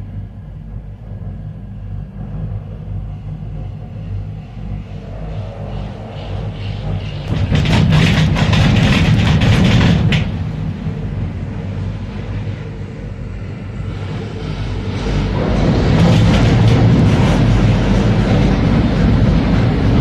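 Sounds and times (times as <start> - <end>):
gondola cabin rumbling and rattling: 0.5 - 20.0.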